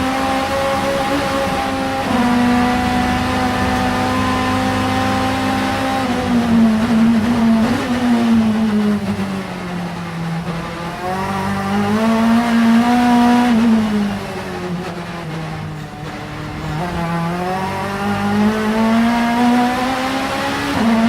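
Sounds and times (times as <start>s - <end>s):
race car engine under load: 0.0s - 21.0s.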